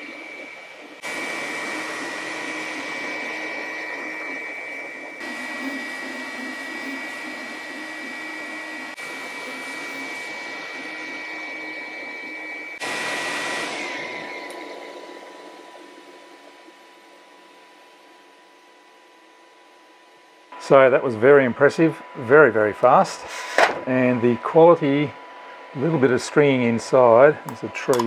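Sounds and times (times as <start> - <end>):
high steady whine: 0.0 - 28.0.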